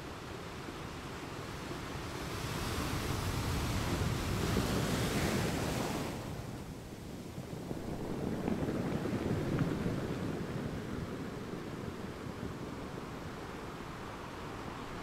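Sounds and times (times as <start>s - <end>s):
wave washing onto beach: 0.4s - 15.0s.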